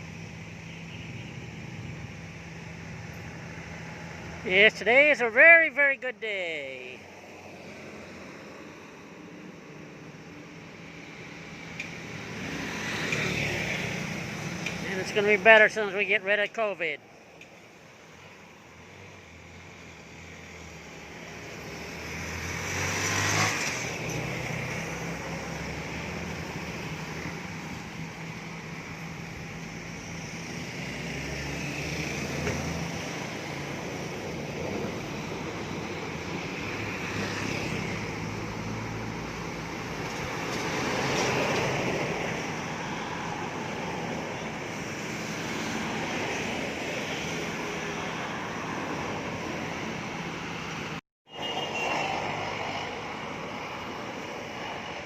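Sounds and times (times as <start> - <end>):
passing traffic: 0.0 - 55.0
road and traffic noise: 0.0 - 55.0.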